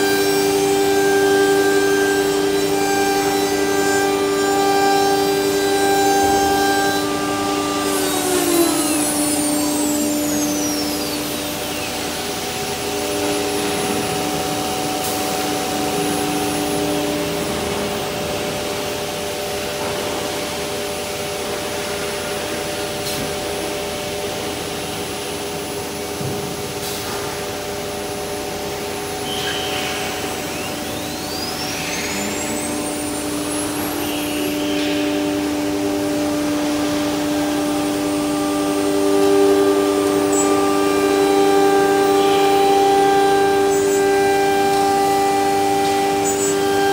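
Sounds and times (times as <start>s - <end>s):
dust extraction hum and hiss: 0.0s - 46.9s
router spindle whine: 0.0s - 46.9s.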